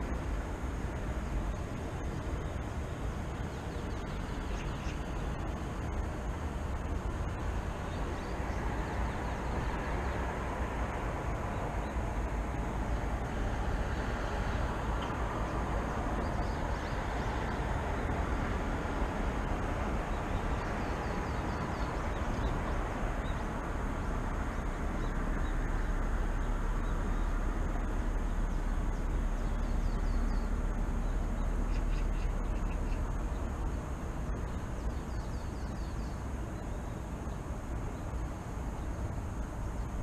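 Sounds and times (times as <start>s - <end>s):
small birds chirping: 0.0s - 12.6s, 13.2s - 18.3s, 19.5s - 23.8s, 24.4s - 40.0s
city traffic rumble: 0.0s - 40.0s.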